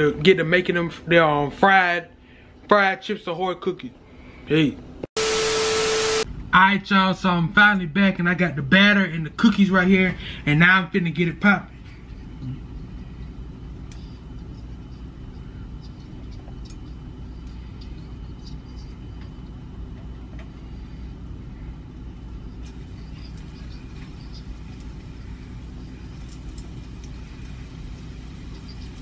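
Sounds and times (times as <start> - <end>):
range hood fan humming: 0.0 - 29.0.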